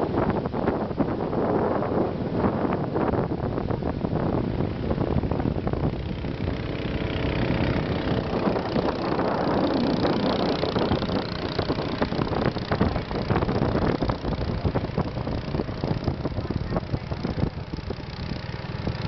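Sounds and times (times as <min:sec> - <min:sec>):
boat engine running: 0:03.5 - 0:19.0.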